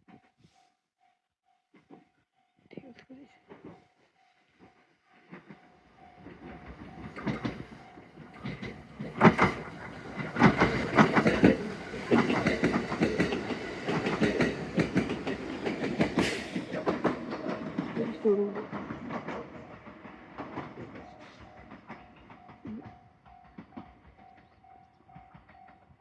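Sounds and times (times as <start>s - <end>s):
train wheels clacking on rails: 3.5s - 26.0s.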